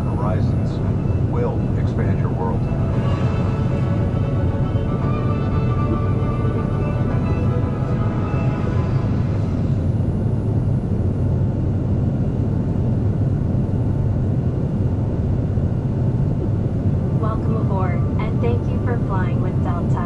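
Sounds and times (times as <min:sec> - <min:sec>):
airliner cabin low rumble: 0:00.0 - 0:20.0.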